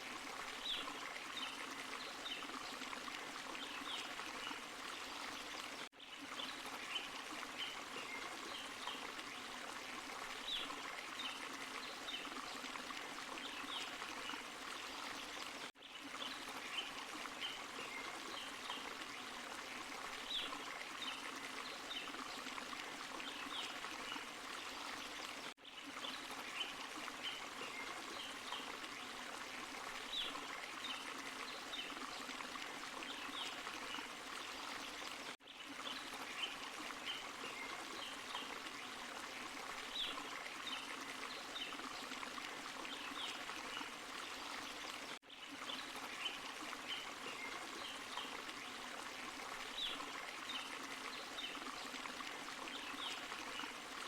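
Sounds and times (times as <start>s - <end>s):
stream and waterfall running: 0.0s - 54.0s.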